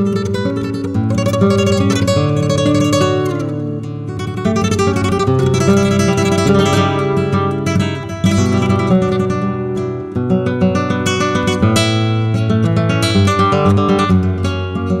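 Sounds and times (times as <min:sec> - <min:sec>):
flamenco guitar playing: 0:00.0 - 0:15.0.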